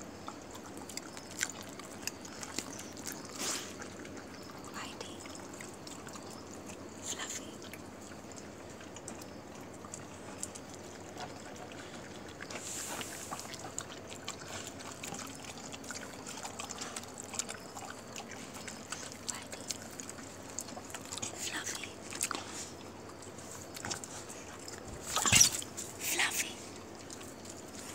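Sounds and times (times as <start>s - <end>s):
dogs lapping and smacking: 0.0s - 27.9s.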